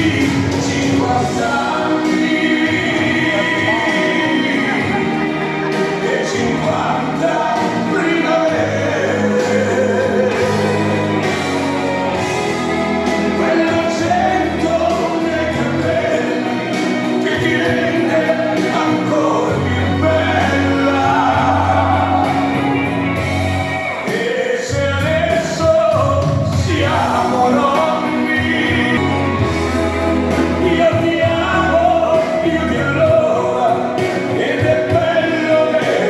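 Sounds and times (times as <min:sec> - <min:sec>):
dance music with singing: 0:00.0 - 0:36.0.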